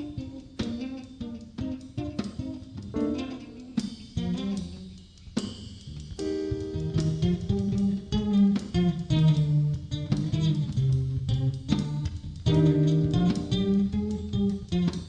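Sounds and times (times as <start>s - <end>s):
plucked guitar music: 0.0s - 5.0s, 6.0s - 15.0s.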